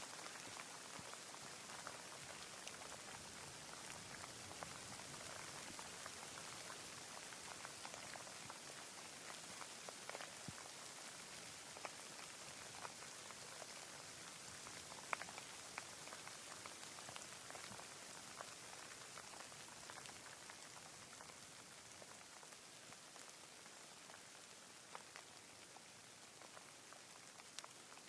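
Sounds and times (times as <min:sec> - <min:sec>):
raindrops ticking: 0:00.0 - 0:28.0.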